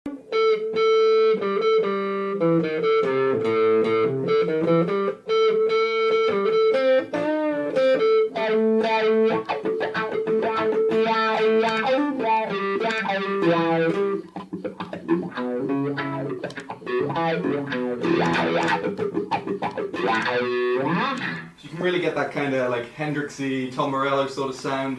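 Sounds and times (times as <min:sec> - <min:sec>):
electric guitar with wah pedal: 0:00.1 - 0:21.6.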